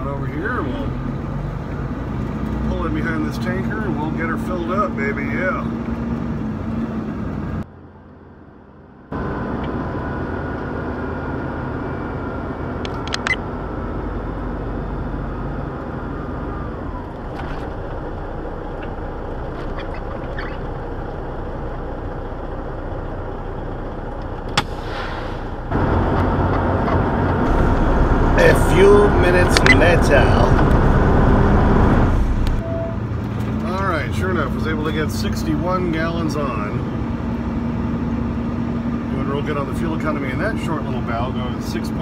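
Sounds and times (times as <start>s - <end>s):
diesel truck engine running: 0.0s - 42.0s.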